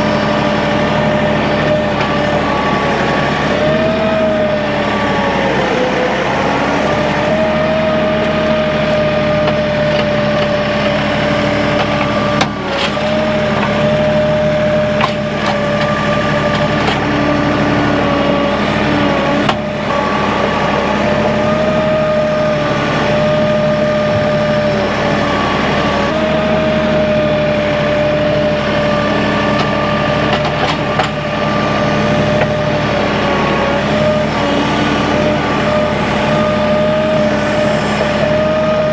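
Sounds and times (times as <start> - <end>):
machine engine whining: 0.0 - 38.9.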